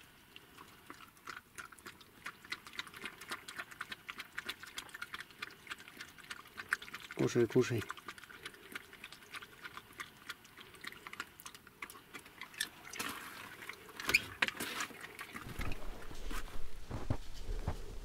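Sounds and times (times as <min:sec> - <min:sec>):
dog eating from plastic bowl: 0:00.0 - 0:17.8.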